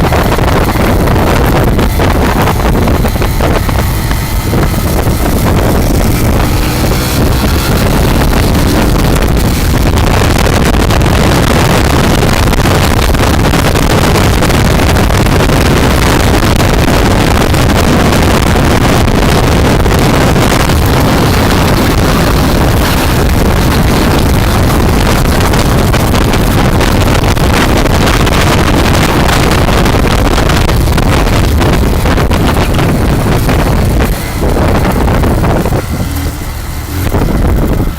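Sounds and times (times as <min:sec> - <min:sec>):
motorcycle engine rumble: 0:00.0 - 0:37.9
wind rushing over microphone: 0:00.0 - 0:37.9.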